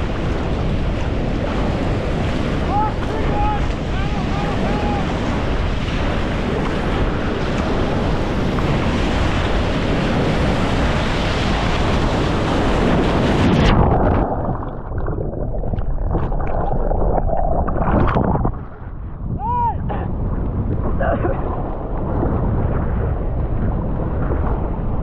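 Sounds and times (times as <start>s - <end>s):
churning water underwater: 0.0s - 25.0s
surf rushing: 0.0s - 25.0s
wind on microphone: 0.0s - 25.0s.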